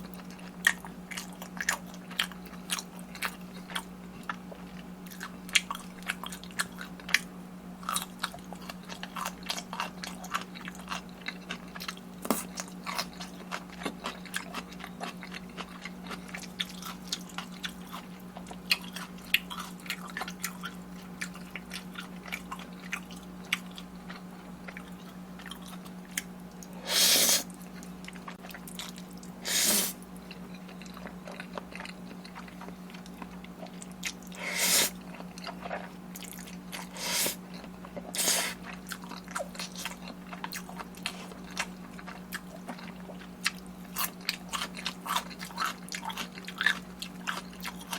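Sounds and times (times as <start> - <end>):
chewing with wet crunches: 0.0 - 26.8, 27.4 - 47.9.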